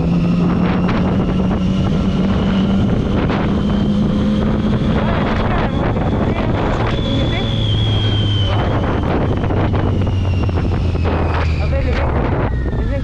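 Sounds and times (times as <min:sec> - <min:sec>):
motorcycle engine accelerating: 0:00.0 - 0:13.0
wind noise on microphone: 0:00.0 - 0:13.0.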